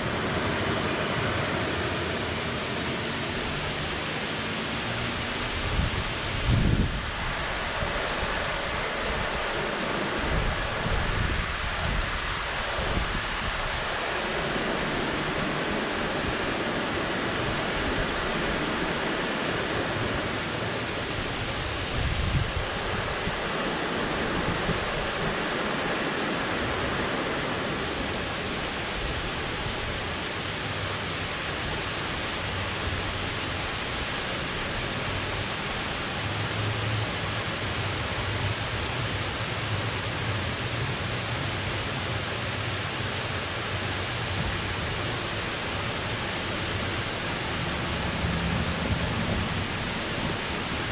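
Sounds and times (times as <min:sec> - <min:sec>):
water rushing from a dam: 0:00.0 - 0:50.9.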